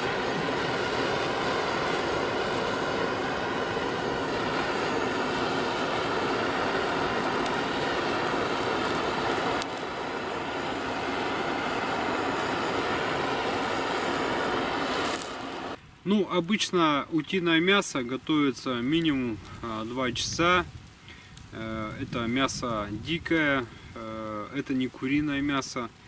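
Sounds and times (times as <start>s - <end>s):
gas torch flame hissing: 0.0s - 15.8s, 18.7s - 26.0s.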